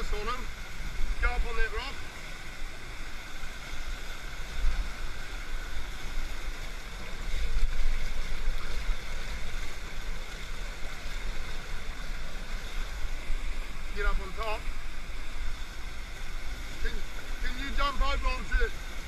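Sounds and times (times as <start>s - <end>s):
river rapid rushing: 0.0s - 19.0s.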